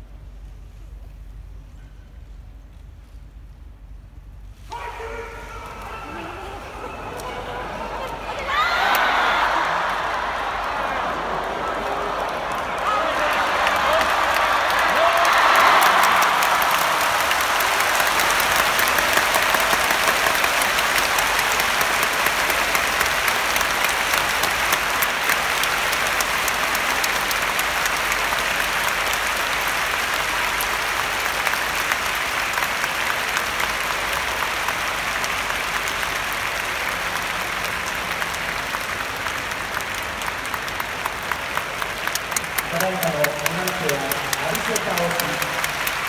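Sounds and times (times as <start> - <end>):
crowd applauding: 5.1 - 46.0.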